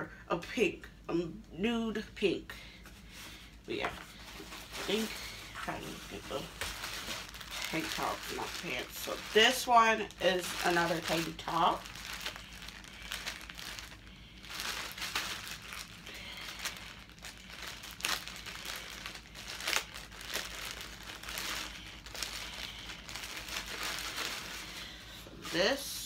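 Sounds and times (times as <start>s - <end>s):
plastic bag crinkling: 3.1s - 26.0s.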